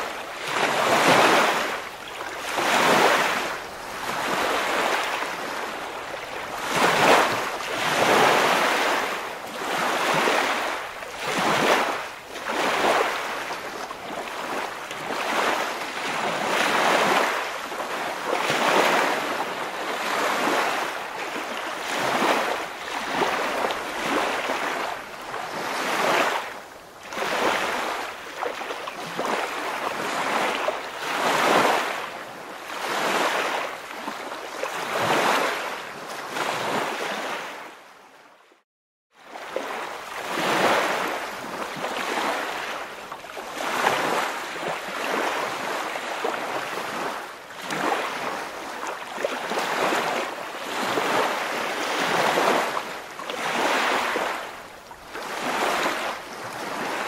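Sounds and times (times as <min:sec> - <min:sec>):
waves washing and breaking: 0:00.0 - 0:38.6, 0:39.2 - 0:57.0.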